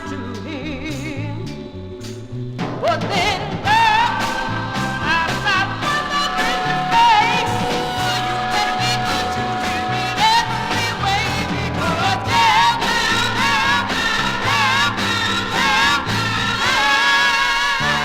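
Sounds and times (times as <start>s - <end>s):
soul music playing: 0.0s - 18.0s
walking bass line: 0.0s - 18.0s.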